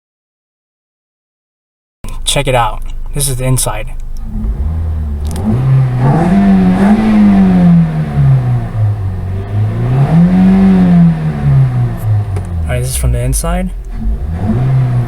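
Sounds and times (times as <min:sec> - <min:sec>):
car engine revving: 0:02.2 - 0:15.0.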